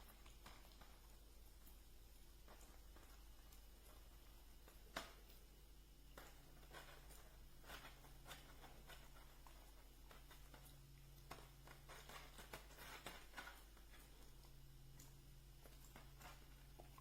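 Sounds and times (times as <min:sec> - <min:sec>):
faint irregular clicks: 0:00.0 - 0:17.0.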